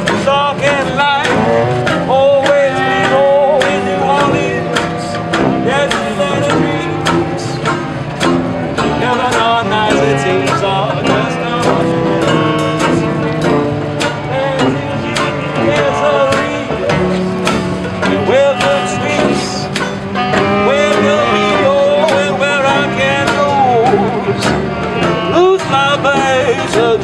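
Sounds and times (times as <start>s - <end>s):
swing jazz music: 0.0s - 27.0s.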